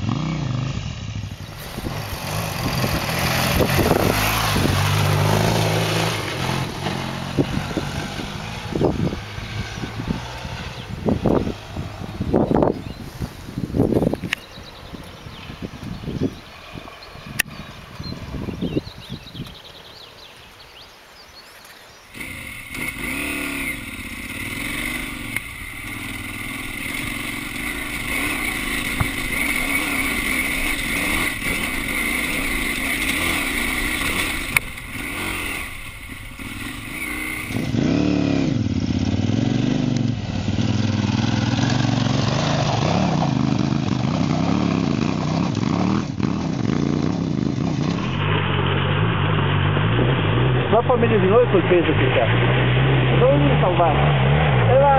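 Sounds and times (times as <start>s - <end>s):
motorcycle engine revving: 0.0s - 19.6s, 22.0s - 54.9s.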